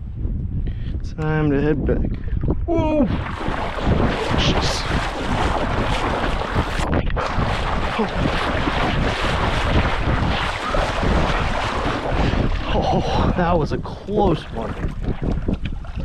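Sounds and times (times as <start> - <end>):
wind buffeting microphone: 0.0 - 16.0
choppy water splashing: 2.4 - 16.0.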